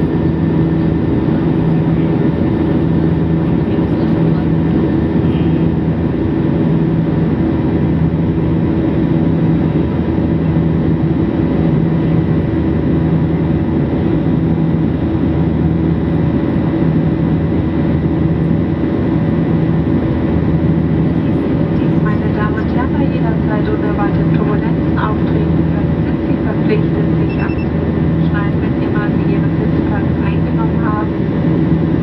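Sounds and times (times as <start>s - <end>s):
jet engine rumble in cabin: 0.0s - 32.0s
low pulsing engine hum: 0.0s - 32.0s.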